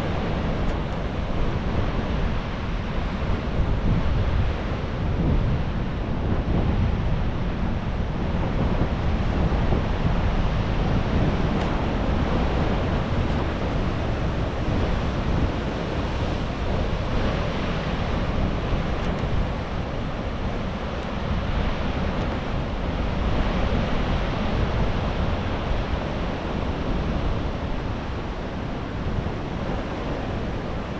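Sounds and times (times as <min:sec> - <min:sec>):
surf breaking and washing: 0:00.0 - 0:30.9
wind buffeting microphone: 0:00.0 - 0:30.9.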